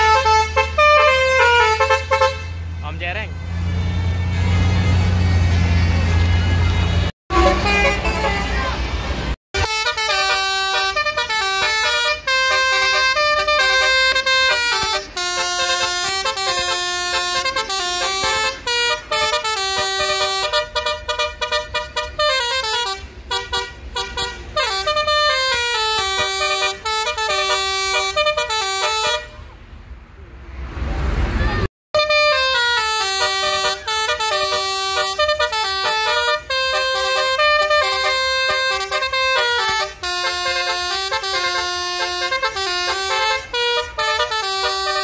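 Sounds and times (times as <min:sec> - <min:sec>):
multi-tone vehicle horns melody: 0:00.0 - 0:29.5, 0:31.9 - 0:45.0.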